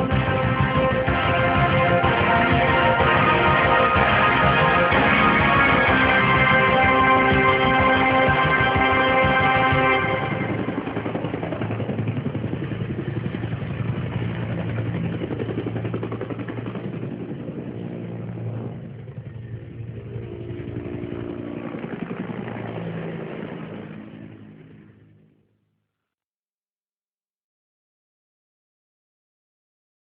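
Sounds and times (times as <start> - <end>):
helicopter rotor chop: 0.0 - 25.3.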